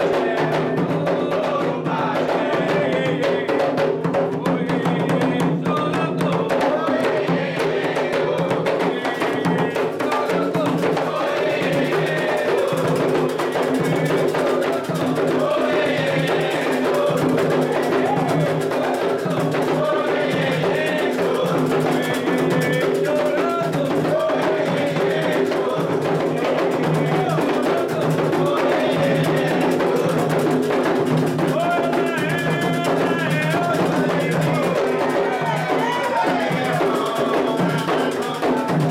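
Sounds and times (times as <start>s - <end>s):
group singing a chant: 0.0s - 38.9s
hand drums playing a rhythm: 0.0s - 38.9s.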